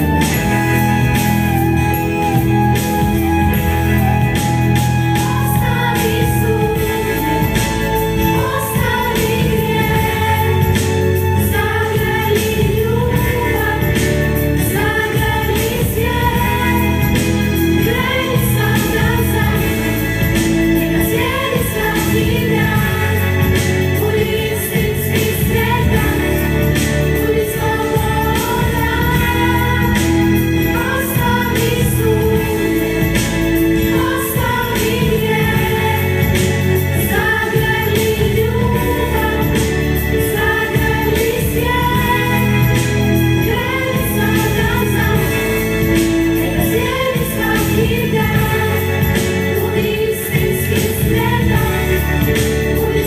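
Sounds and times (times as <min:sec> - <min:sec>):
instrumental accompaniment: 0:00.0 - 0:53.0
girls' vocal group singing: 0:05.2 - 0:53.0.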